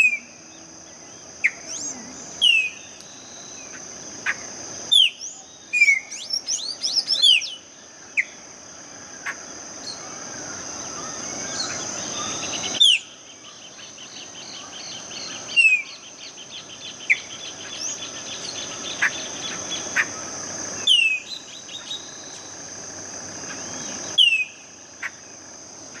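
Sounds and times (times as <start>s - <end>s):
birds calling and chirping: 0.0s - 26.0s
high insect buzz: 0.0s - 26.0s.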